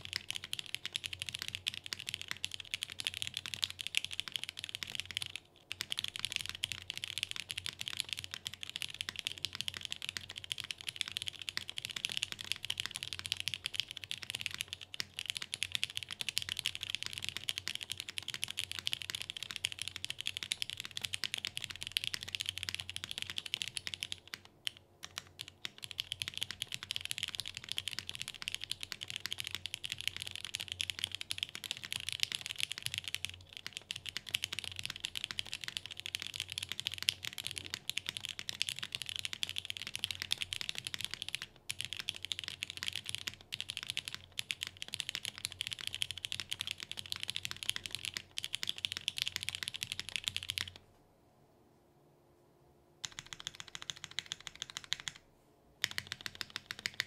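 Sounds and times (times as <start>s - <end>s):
mechanical keyboard typing: 0.0s - 50.8s, 53.0s - 55.2s, 55.8s - 57.0s.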